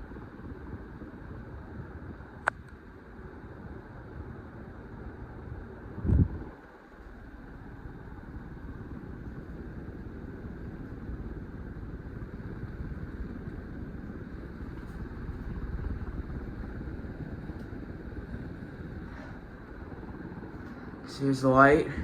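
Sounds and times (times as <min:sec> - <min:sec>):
breeze buffeting microphone: 0:00.0 - 0:22.0
ceiling fan running: 0:00.0 - 0:22.0.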